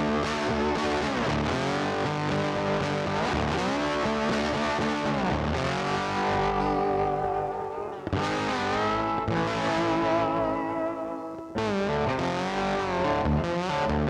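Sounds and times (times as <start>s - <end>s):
distorted electric guitar bending notes: 0.0s - 14.0s.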